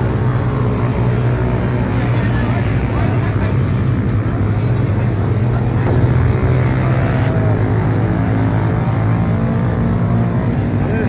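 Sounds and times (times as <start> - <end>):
motorcycle engine drone: 0.0 - 11.0.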